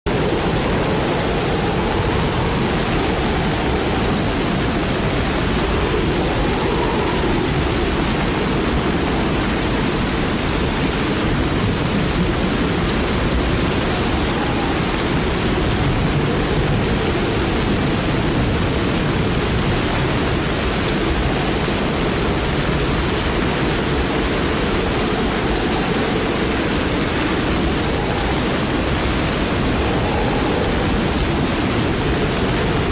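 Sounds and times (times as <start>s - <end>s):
heavy rain in strong wind: 0.0s - 32.9s.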